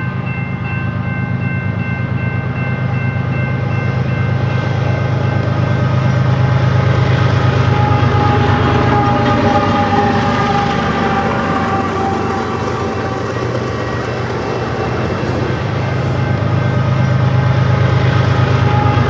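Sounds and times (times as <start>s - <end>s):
diesel locomotive engine under load: 0.0s - 19.0s.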